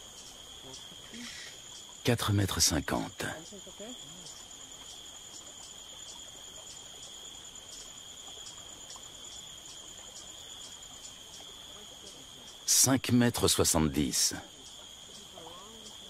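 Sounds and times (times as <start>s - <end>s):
higher pulsing insect call: 0.0s - 16.0s
insect high-pitched trill: 0.0s - 16.0s.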